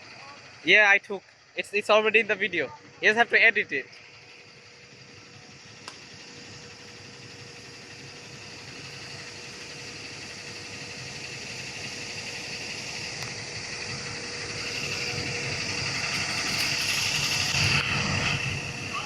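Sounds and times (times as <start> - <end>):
faint steady whine: 0.0 - 19.0
moving vehicle running noise: 0.0 - 19.0.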